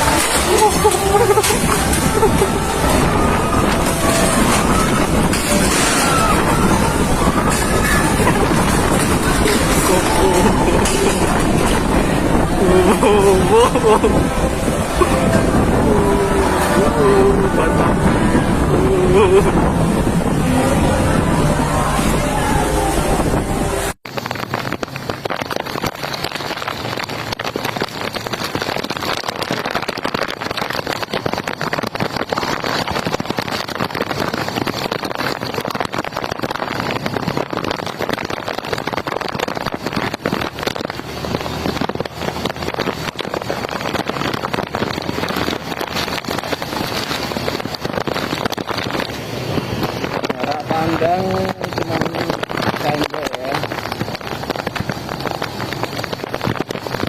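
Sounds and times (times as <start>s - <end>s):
heavy rain: 0.0s - 57.0s
wind: 0.0s - 57.0s.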